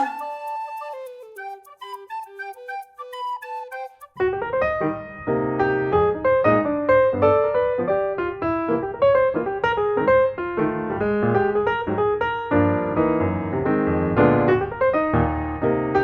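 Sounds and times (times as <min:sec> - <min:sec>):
piano tune: 0:00.0 - 0:16.0.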